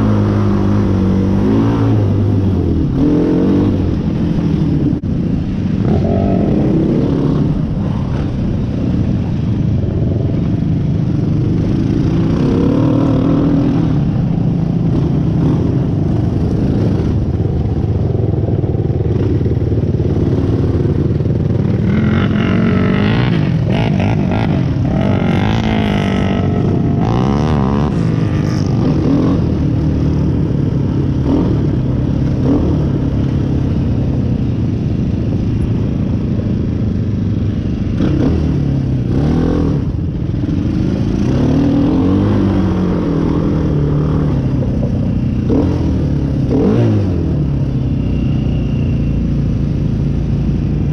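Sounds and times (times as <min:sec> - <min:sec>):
off-road vehicle engine: 0:00.0 - 0:50.9.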